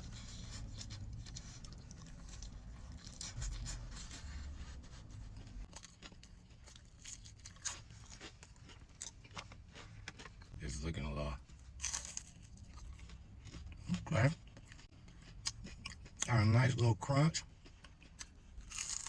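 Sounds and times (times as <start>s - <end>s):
low room rumble: 0.0s - 19.0s.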